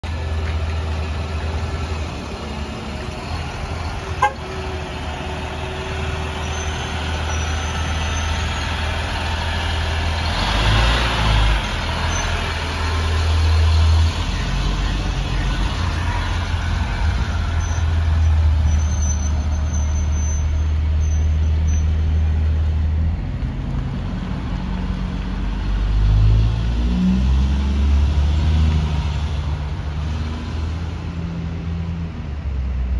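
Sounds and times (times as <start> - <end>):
diesel bus engine pulling away: 0.0 - 32.9.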